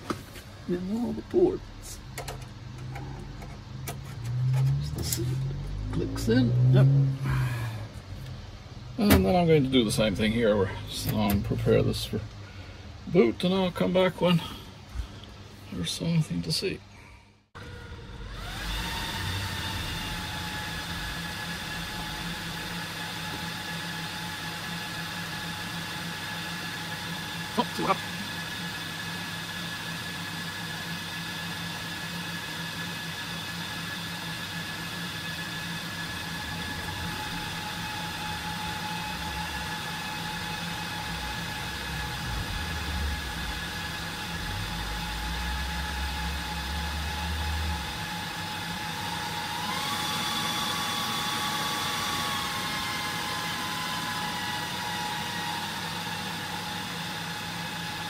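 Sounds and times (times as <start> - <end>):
higher fan whine: 0.0 - 58.0
server cooling fans whining: 0.0 - 58.0.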